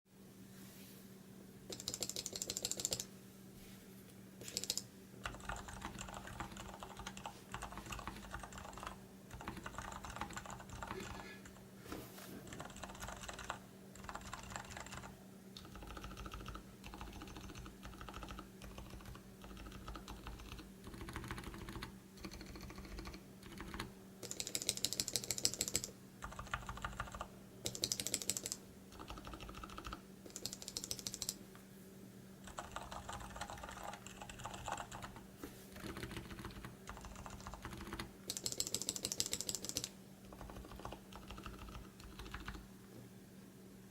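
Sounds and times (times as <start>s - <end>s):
typing on mechanical keyboard: 1.7s - 3.1s, 4.4s - 11.6s, 12.5s - 31.4s, 32.4s - 42.6s.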